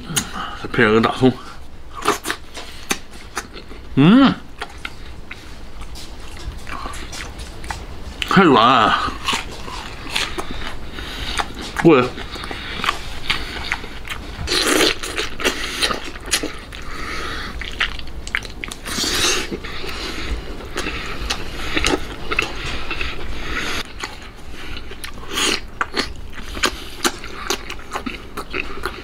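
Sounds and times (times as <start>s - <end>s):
man chewing: 1.5s - 29.0s.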